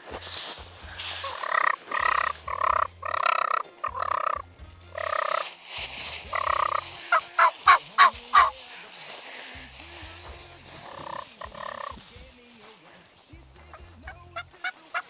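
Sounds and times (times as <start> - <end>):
wild turkeys calling: 0.1 - 15.0.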